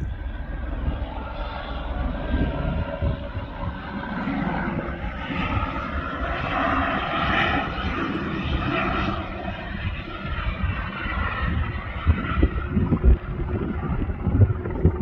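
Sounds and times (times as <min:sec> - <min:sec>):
distant helicopters: 0:00.0 - 0:15.0
wind on microphone: 0:00.0 - 0:15.0.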